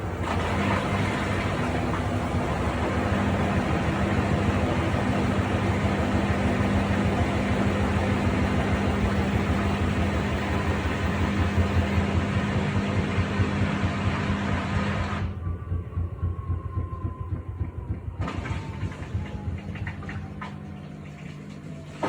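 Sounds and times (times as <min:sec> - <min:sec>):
low motor hum: 0:00.0 - 0:22.0
washing machine spinning: 0:00.0 - 0:22.0.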